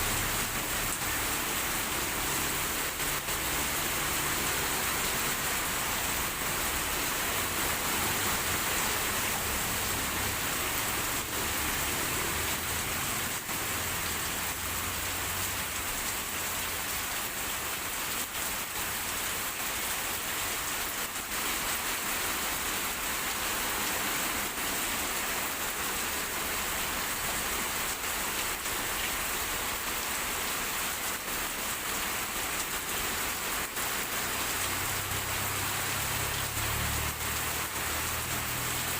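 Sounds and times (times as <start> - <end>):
heavy rain on hard surfaces: 0.0 - 38.9.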